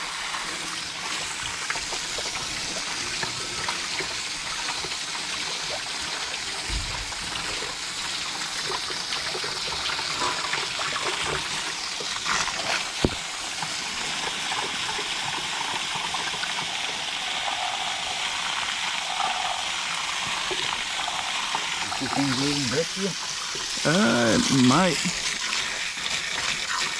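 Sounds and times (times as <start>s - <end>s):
hose spraying water on metal coil: 0.0s - 26.9s.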